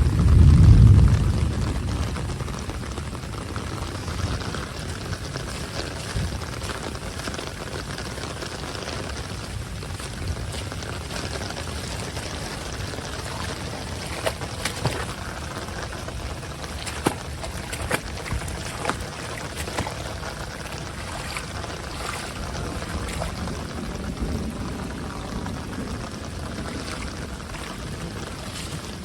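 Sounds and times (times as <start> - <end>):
heavy rain: 0.0 - 29.0
water pouring and running: 0.0 - 29.0.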